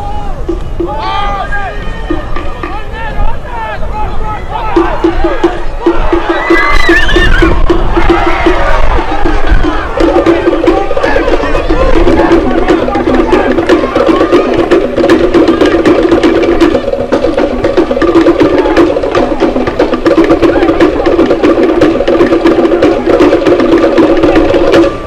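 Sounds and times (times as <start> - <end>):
fast rhythmic percussion strikes: 0.0 - 25.0.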